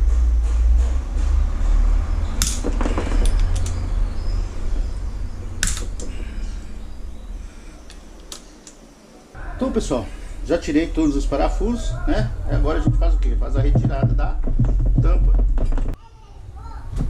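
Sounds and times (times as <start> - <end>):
low rumble: 0.0 - 8.6, 9.4 - 16.6.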